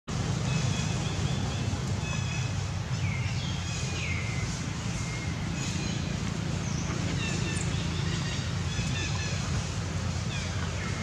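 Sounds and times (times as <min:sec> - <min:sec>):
birds chirping: 0:00.1 - 0:11.0
steady low rumble: 0:00.1 - 0:11.0.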